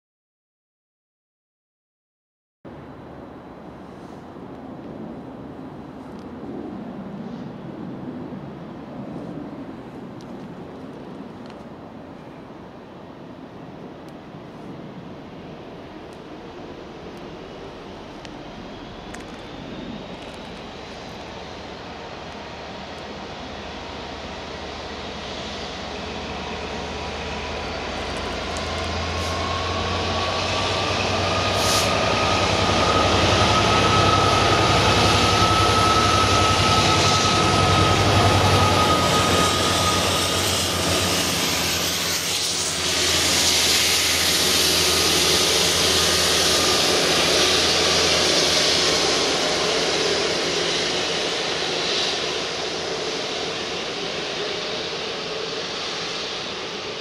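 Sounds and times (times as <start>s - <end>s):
diesel locomotives passing: 2.7s - 57.0s.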